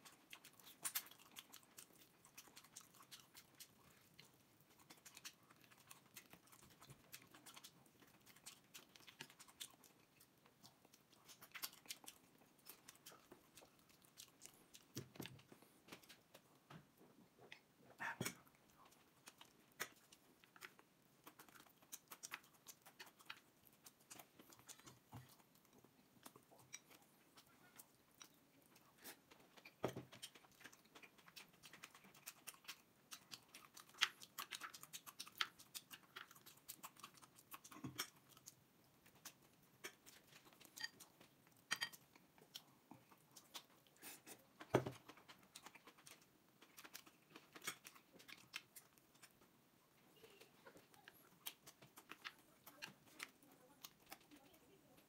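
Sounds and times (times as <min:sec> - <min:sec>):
person chewing: 0:00.0 - 0:55.0.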